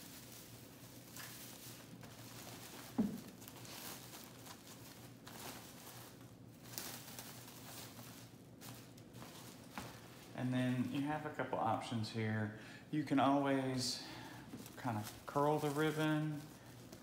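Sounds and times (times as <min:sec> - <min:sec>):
faint rustling of ribbon and garland: 0:00.0 - 0:17.0.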